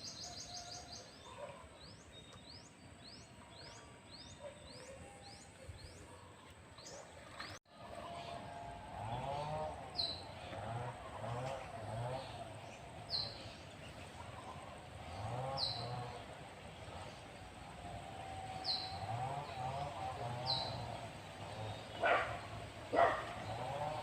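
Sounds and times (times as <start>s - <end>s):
bird chirping: 0.0s - 24.0s
outdoor background noise: 0.0s - 24.0s.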